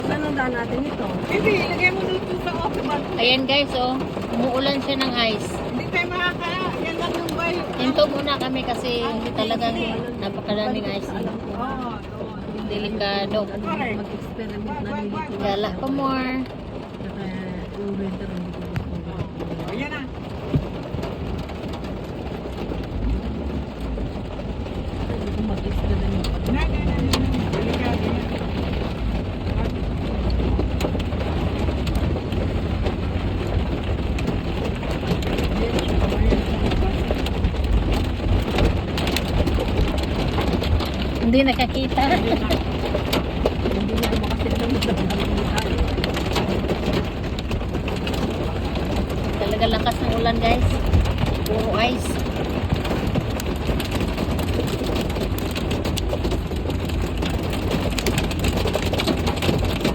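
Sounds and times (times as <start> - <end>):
ice pellets ticking on car: 0.0 - 59.9
steady low rumble: 0.0 - 59.9.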